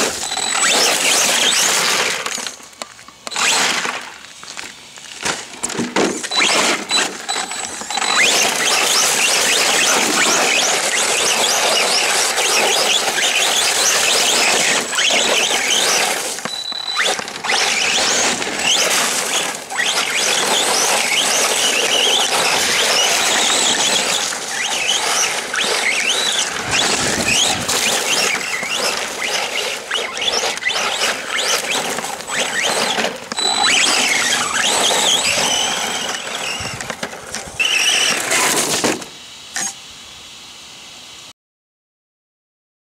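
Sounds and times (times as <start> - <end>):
tyres over mud and stones: 0.0 - 39.0
rc truck motor whining: 0.0 - 40.6.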